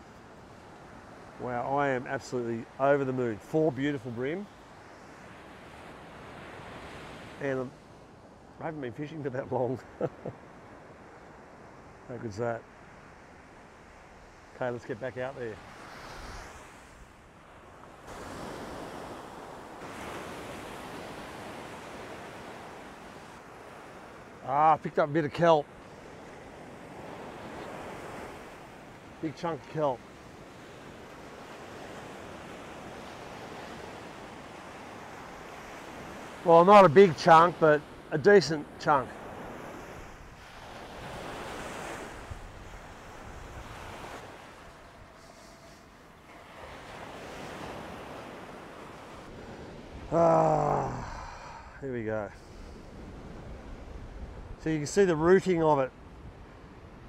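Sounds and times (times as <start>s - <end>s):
ocean surf washing up beach: 0.0s - 57.0s.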